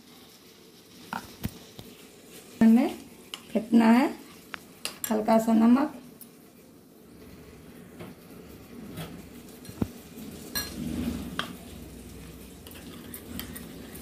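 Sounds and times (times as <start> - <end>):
eggplant sizzling in oil: 0.0 - 14.0.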